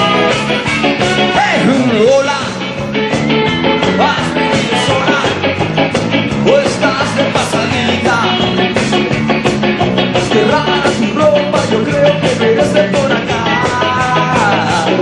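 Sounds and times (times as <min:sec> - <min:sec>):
drums keeping steady beat: 0:00.0 - 0:15.0
electric guitars with sliding notes: 0:00.0 - 0:15.0.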